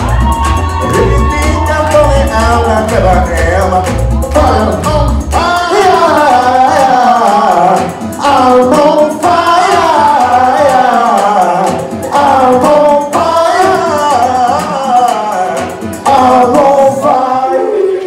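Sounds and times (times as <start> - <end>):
loud pop music with singing: 0.0 - 18.0.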